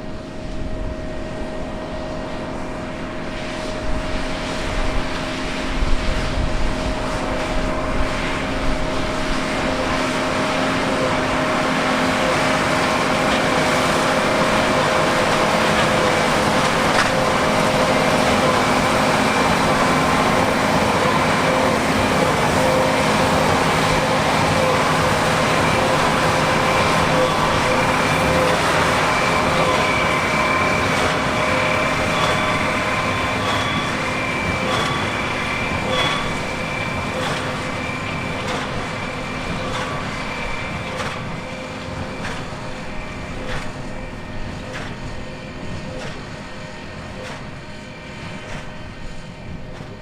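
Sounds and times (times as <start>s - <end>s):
baler mechanical whine: 0.0s - 50.0s.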